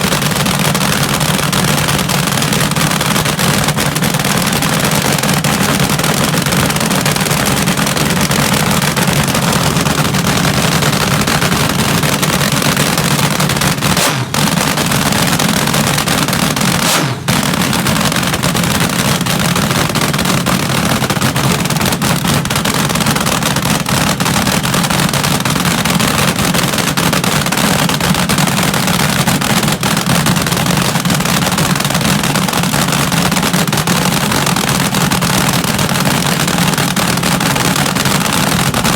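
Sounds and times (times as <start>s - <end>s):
dragster engine running loud: 0.0s - 38.9s.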